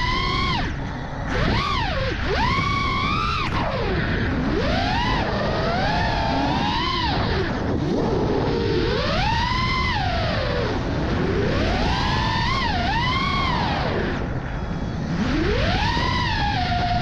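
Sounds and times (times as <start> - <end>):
quadcopter motors whining: 0.0 - 17.0
steady rushing noise: 0.0 - 17.0.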